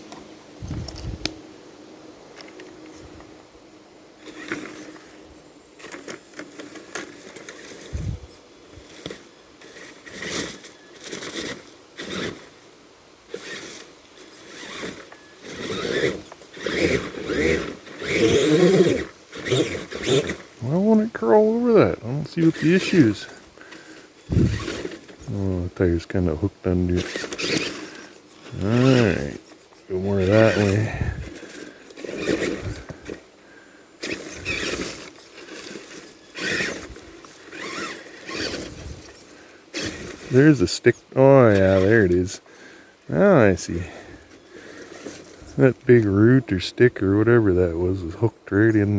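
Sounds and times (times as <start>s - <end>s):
tyres scraping through brush: 4.1s - 48.9s
toy truck electric motors whining: 4.2s - 33.3s, 34.0s - 46.7s.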